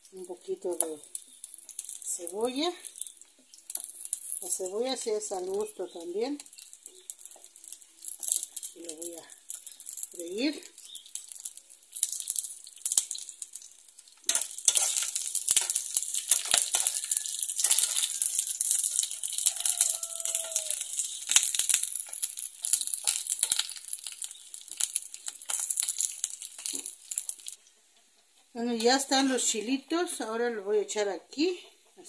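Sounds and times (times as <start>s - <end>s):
oil sizzling in a frying pan: 0.0s - 30.2s
metal spoon scraping a pan: 0.2s - 27.6s.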